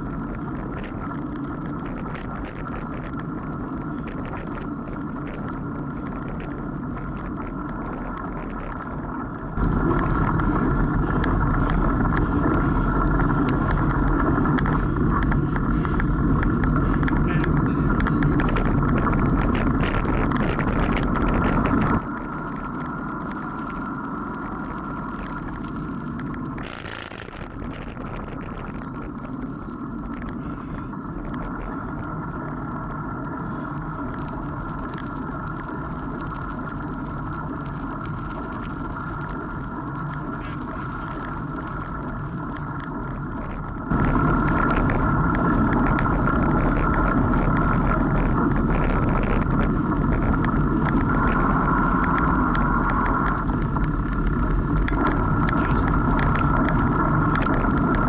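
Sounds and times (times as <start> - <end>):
bicycle tyres rumbling on dirt: 0.0 - 58.0.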